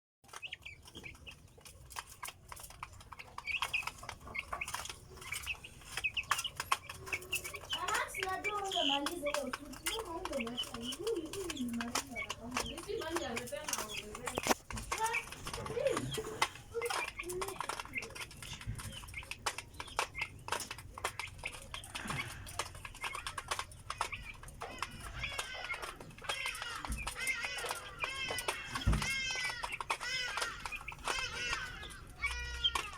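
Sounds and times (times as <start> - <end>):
chicks peeping: 0.2 - 32.9
sharp clicks: 0.3 - 32.9
sharp ticks and knocks: 0.3 - 32.9.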